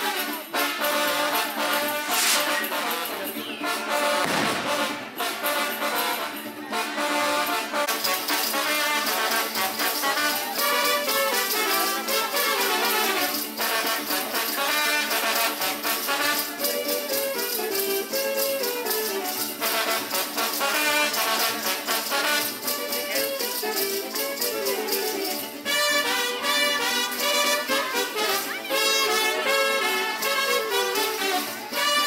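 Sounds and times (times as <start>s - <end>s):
leg bells jingling: 0.0s - 6.6s, 7.9s - 32.0s
brass band playing dance music: 0.0s - 24.4s, 25.4s - 32.0s.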